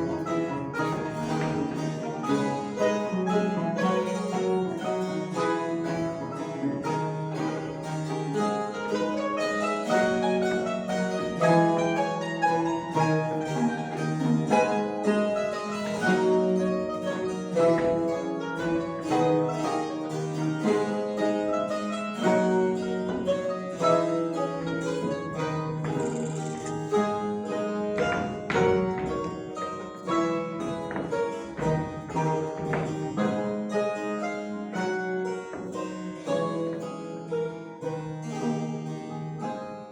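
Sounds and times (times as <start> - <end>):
mandolin ensemble playing: 0.0 - 39.9.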